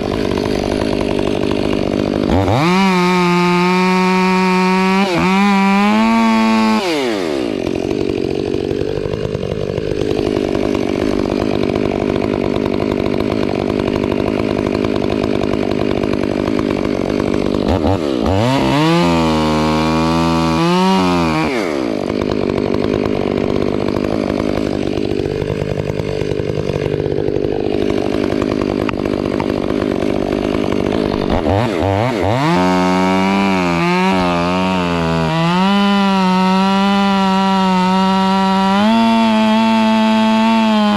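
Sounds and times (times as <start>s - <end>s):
chainsaw cutting wood: 0.0s - 40.9s
chainsaw engine revving: 0.0s - 40.9s.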